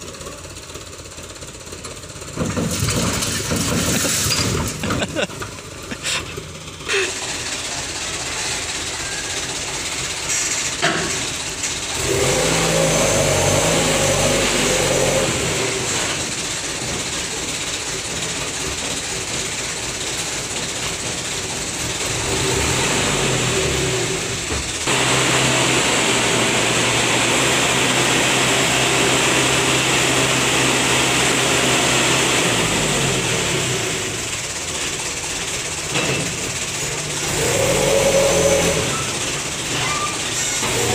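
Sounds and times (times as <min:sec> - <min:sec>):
diesel truck engine revving: 0:02.2 - 0:18.6, 0:20.1 - 0:40.9.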